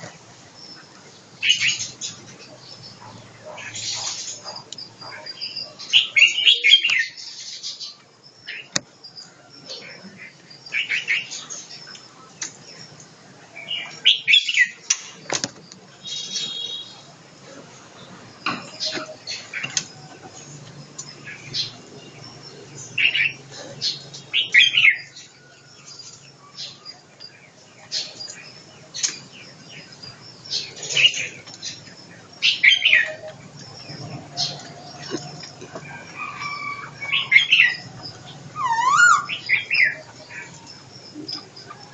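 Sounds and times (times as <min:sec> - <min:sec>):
small bird chirping: 0:00.0 - 0:17.1, 0:18.0 - 0:41.9.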